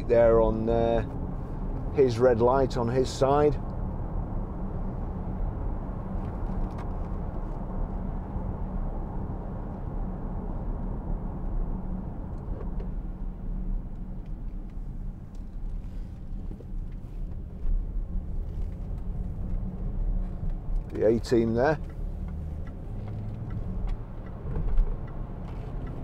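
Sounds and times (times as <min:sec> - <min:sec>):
engine and road noise drone: 0:00.0 - 0:26.0.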